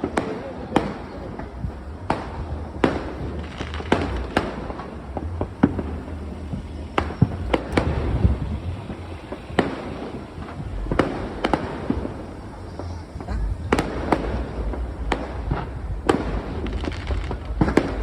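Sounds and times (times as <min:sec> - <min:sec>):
fireworks bangs and cracks: 0:00.0 - 0:18.0
low rumble: 0:01.3 - 0:18.0.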